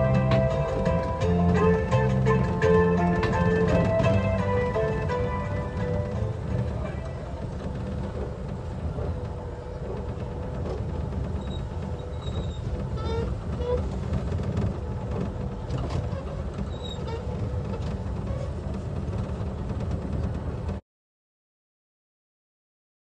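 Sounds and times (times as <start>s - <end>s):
ride car low rumble: 0.0s - 20.8s.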